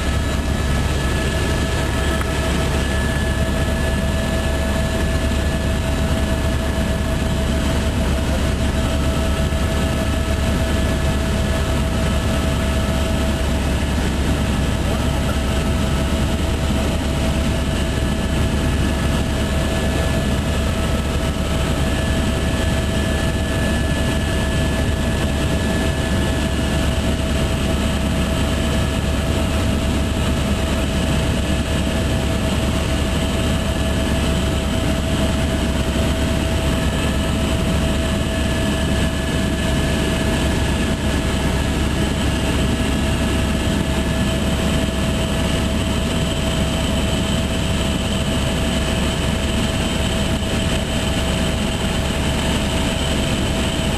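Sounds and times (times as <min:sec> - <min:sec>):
helicopter rotor drone: 0:00.0 - 0:53.9
turbine high whine: 0:00.0 - 0:53.9.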